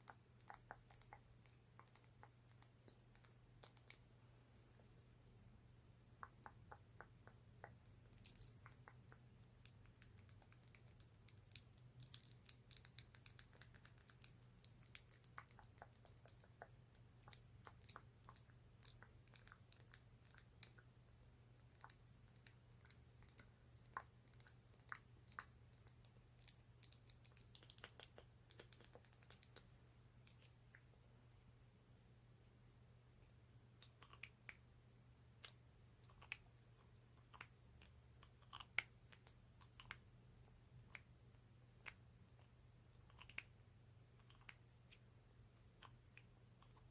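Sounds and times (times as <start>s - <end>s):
faint low hum: 0.0s - 46.9s.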